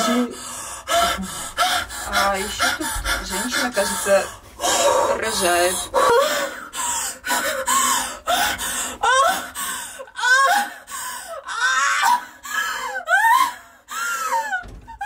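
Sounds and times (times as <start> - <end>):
woman moaning and gasping: 0.0 - 15.0.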